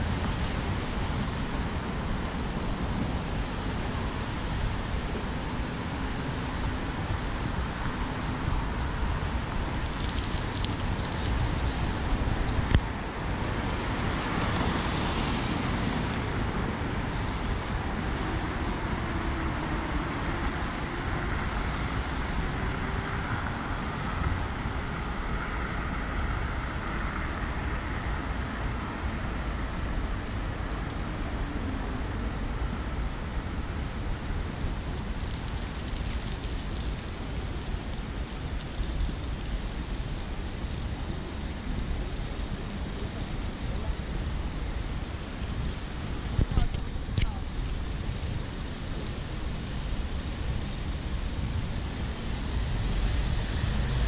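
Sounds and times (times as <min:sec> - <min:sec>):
car tyres on wet road: 0:00.0 - 0:54.0
rain hiss: 0:00.0 - 0:54.0.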